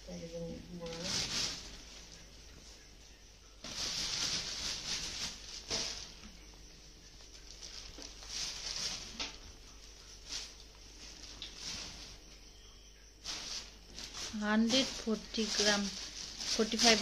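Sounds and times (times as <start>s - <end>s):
plastic bag rustling: 0.6s - 2.6s, 3.6s - 12.4s, 13.2s - 17.0s.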